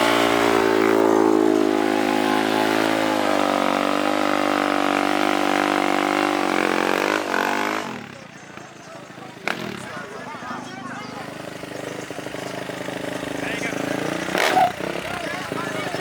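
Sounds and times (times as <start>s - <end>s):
small engine at high revs: 0.0s - 16.0s.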